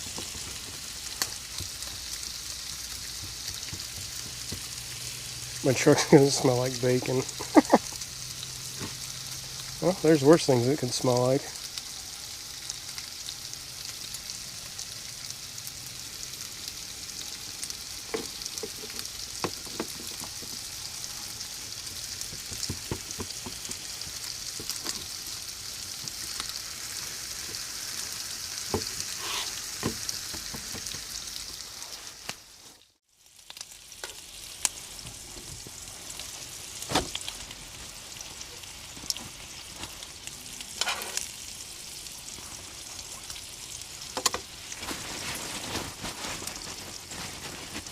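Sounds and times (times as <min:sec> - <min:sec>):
grease popping: 0:00.0 - 0:32.4, 0:33.2 - 0:47.9
bacon sizzling in a pan: 0:00.0 - 0:47.9.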